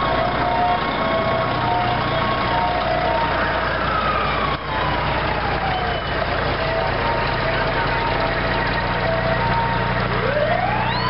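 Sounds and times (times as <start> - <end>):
siren tones: 0.0 - 11.0
truck diesel engine passing: 0.0 - 11.0.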